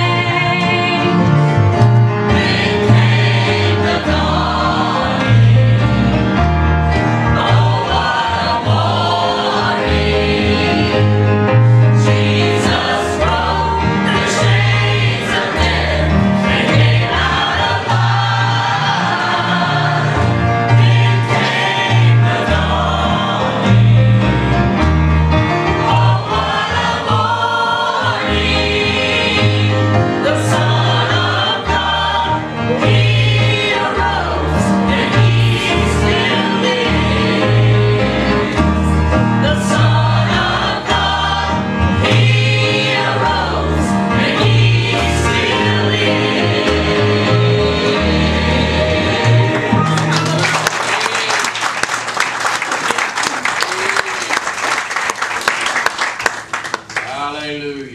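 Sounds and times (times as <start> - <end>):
instrumental accompaniment: 0.0 - 52.2
gospel choir singing: 0.0 - 52.9.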